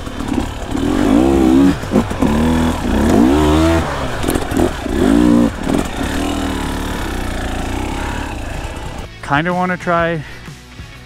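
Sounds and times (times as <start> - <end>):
dirt bike engine revving: 0.0 - 9.1.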